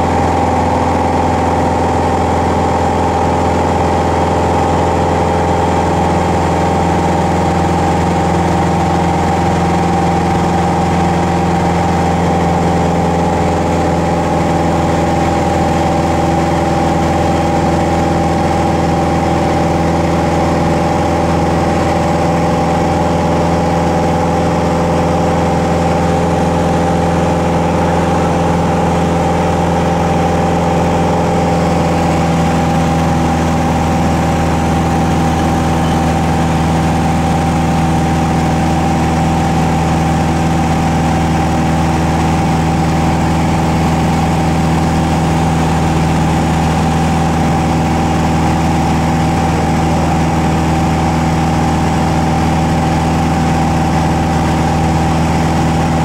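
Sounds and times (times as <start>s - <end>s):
propeller engine droning in cabin: 0.0s - 56.0s.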